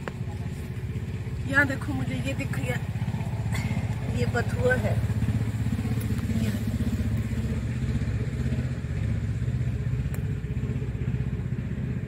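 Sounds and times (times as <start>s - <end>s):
engine running with throb: 0.0s - 12.0s.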